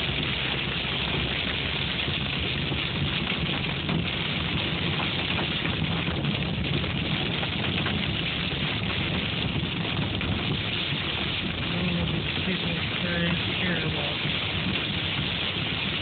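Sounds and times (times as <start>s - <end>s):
hail and rain pelting car roof: 0.0s - 16.0s.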